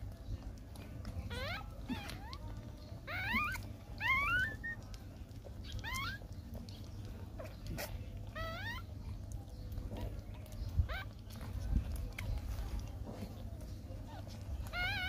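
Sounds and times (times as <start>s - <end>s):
puppies squeaking: 0.0s - 15.0s.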